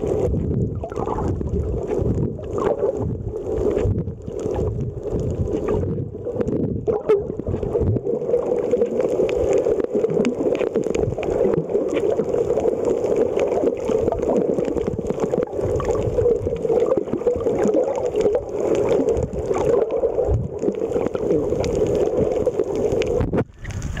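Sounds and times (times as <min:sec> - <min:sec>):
muffled underwater rush: 0:00.0 - 0:24.0
underwater crackles and clicks: 0:00.0 - 0:24.0.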